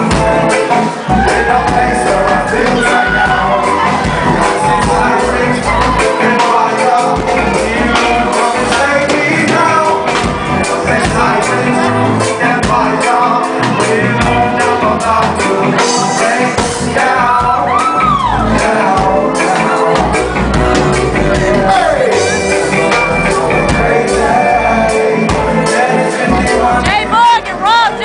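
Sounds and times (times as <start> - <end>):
live band playing amplified music: 0.0 - 28.0
person singing: 0.0 - 28.0.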